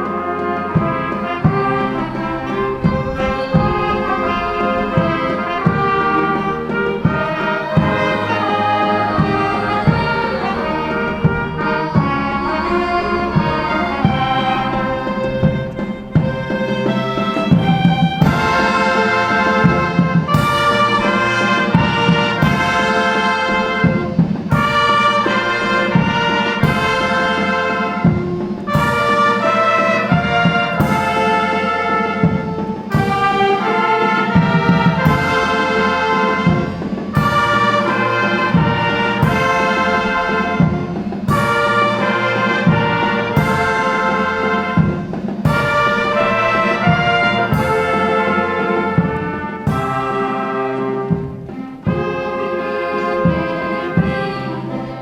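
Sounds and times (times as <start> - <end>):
brass music with trumpets and trombones: 0.0 - 55.0.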